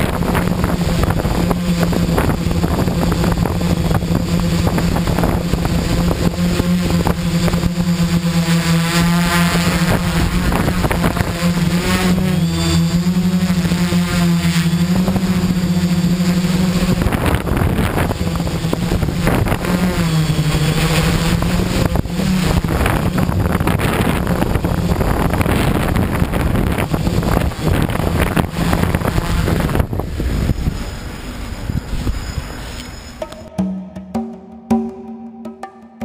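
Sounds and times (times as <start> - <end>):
wind buffeting microphone: 0.0 - 32.8
quadcopter propellers humming: 0.0 - 36.0.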